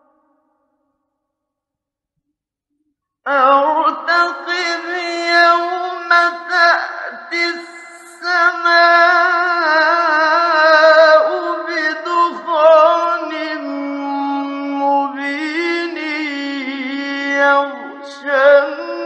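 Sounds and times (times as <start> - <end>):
man chanting melodically: 3.3 - 19.0.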